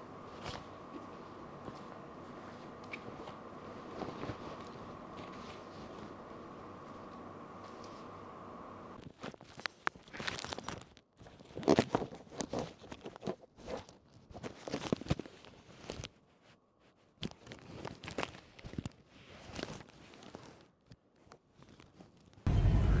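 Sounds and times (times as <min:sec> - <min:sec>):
rustling and crinkling handling noise: 0:00.2 - 0:08.2, 0:09.0 - 0:22.4.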